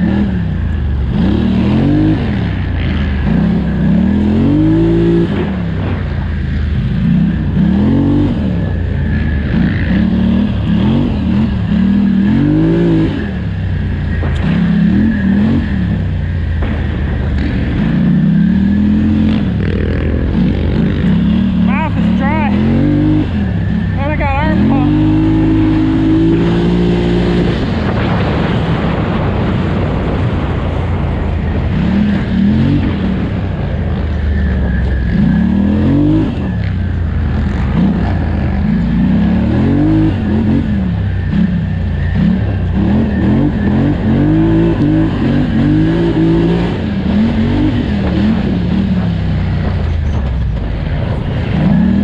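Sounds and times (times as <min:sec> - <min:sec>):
atv engine revving: 0:00.0 - 0:52.0
steady rush of noise: 0:00.0 - 0:52.0.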